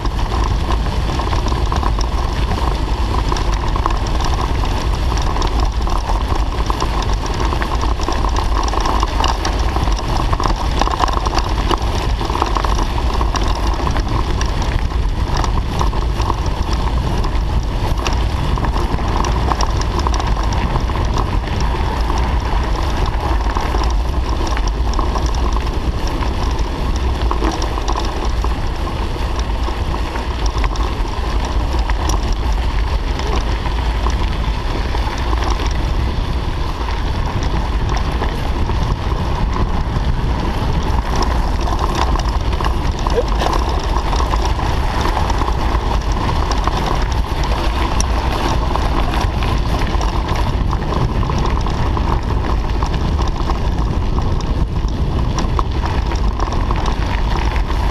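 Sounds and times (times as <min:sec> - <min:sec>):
bicycle tyres rolling on gravel: 0:00.0 - 0:57.9
wind on microphone: 0:00.0 - 0:57.9.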